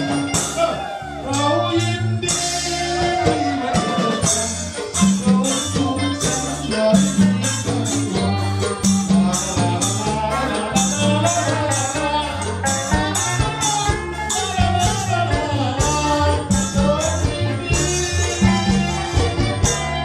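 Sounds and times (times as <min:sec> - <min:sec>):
live dance band music: 0:00.0 - 0:20.0.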